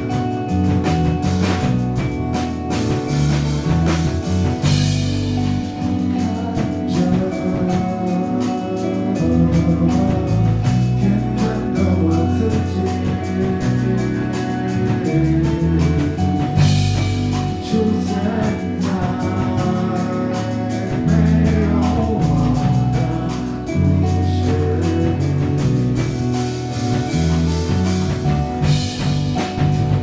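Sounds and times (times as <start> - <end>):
rock band playing: 0.0 - 30.0.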